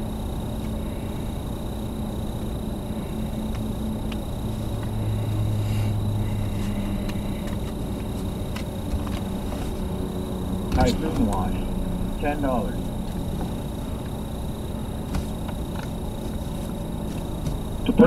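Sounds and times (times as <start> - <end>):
car engine idling: 0.0 - 18.0
deeper hum: 0.0 - 18.0.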